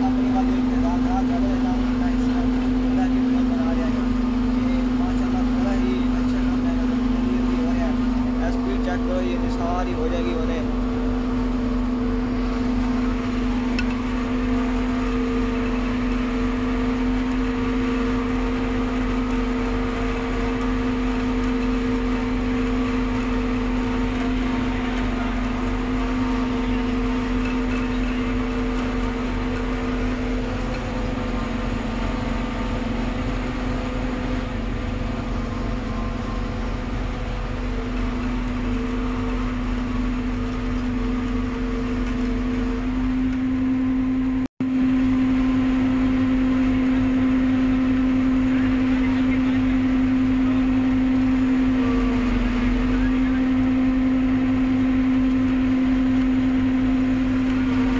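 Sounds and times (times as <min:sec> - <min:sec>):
forage harvester droning: 0:00.0 - 0:57.9.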